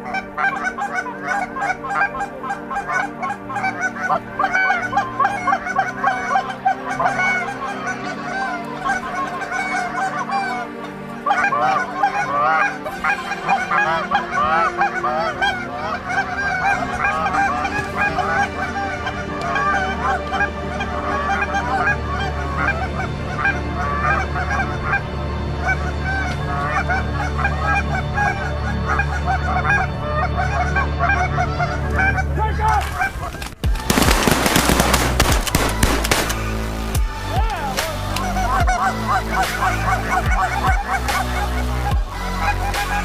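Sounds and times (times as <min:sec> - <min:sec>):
flock of geese honking: 0:00.0 - 0:43.0.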